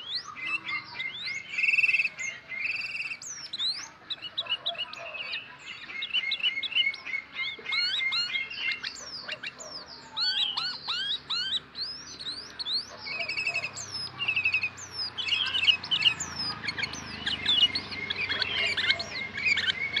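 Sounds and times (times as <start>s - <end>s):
bird chirping and whistling: 0.0s - 20.0s.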